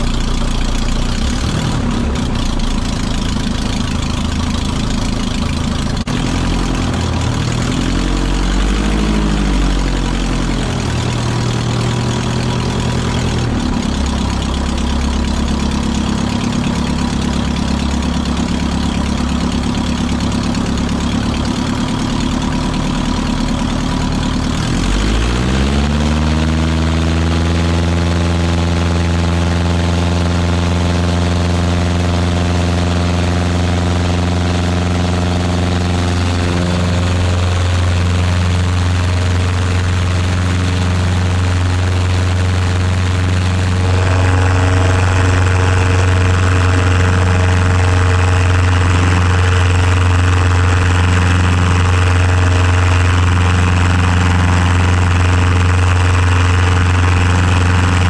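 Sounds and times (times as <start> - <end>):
light airplane engine running: 0.0 - 58.0.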